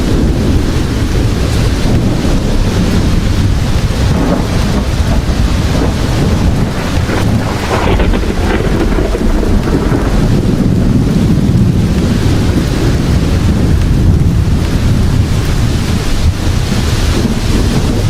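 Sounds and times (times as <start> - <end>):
rolling thunder rumble: 0.0 - 18.0
steady rain hiss: 0.0 - 18.0.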